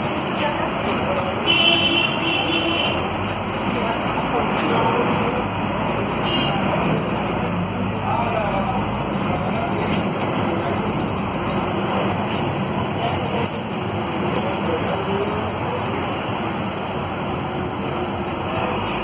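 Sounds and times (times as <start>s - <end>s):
bus diesel engine running: 0.0s - 19.0s
road and traffic noise: 0.0s - 19.0s.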